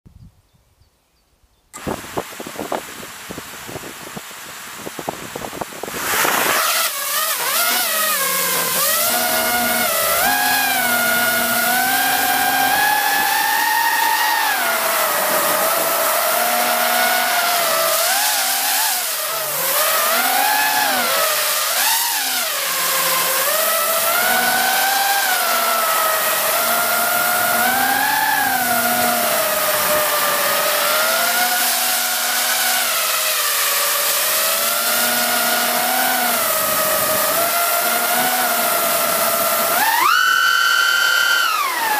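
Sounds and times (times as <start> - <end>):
drone motors whining: 5.8 - 41.9.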